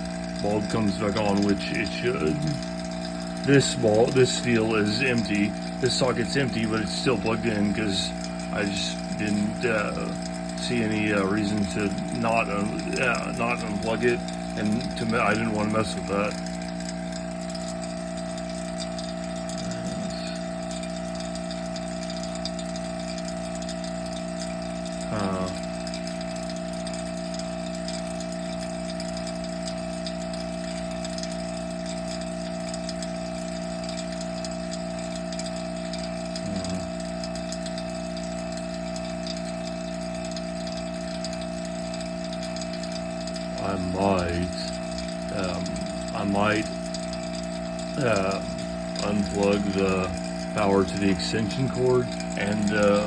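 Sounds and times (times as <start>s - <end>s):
vacuum pump humming: 0.0s - 53.0s.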